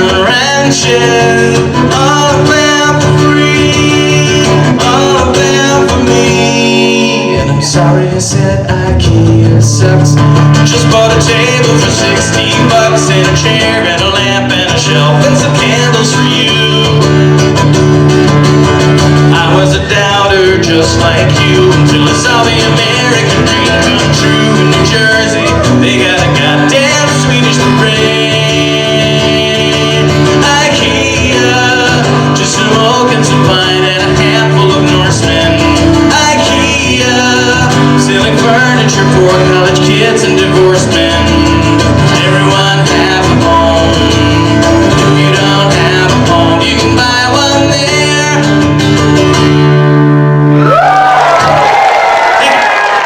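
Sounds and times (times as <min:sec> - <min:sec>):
bass line: 0:00.0 - 0:51.9
guitar: 0:00.0 - 0:53.0.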